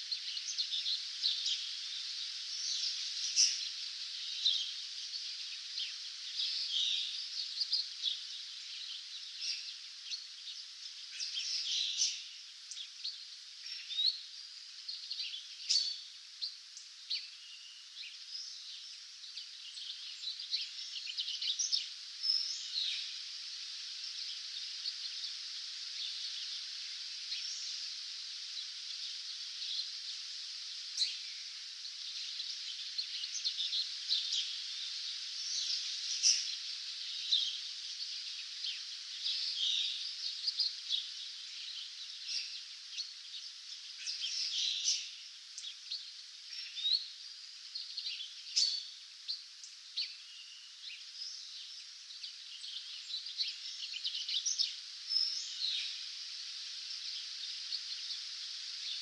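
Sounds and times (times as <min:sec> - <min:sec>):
songbirds chirping and whistling: 0:00.0 - 0:59.0
steady high hiss: 0:00.0 - 0:59.0.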